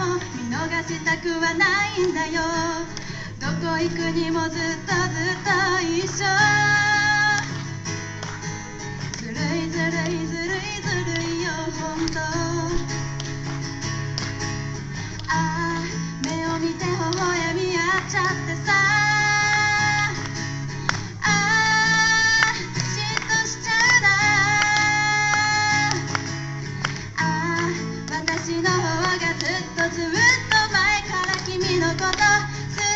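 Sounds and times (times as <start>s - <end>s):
woman singing: 0.0s - 7.7s, 9.0s - 13.2s, 15.2s - 26.3s, 26.9s - 32.9s
guitar strumming: 0.0s - 32.9s.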